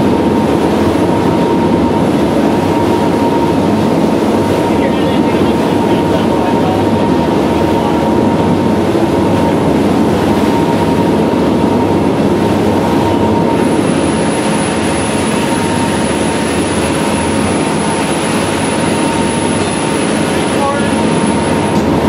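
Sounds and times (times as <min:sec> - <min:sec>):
boat engines rumbling: 0:00.0 - 0:22.0
rushing water: 0:00.0 - 0:22.0.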